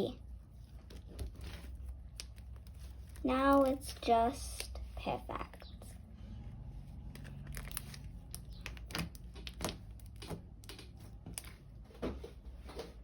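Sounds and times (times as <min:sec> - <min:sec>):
slime being kneaded by hand: 0:00.0 - 0:05.9, 0:06.8 - 0:13.0.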